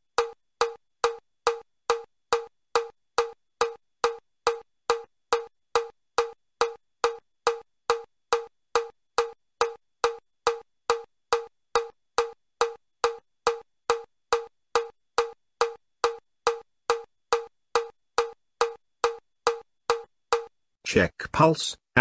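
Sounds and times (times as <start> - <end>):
metronome clicking: 0.1 - 20.5.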